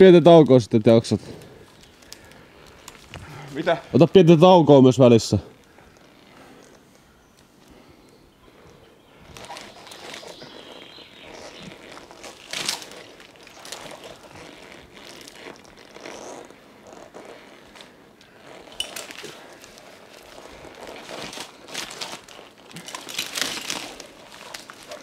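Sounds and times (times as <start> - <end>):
rustling of clothing and gear: 0.0 - 25.0.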